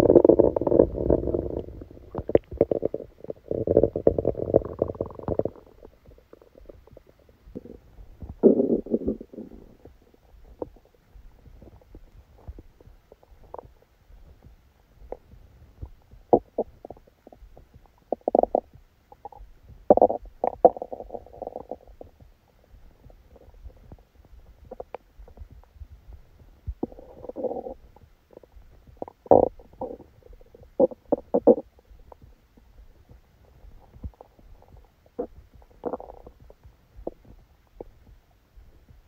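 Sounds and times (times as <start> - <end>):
stomach growling and gurgling: 0.0 - 39.0.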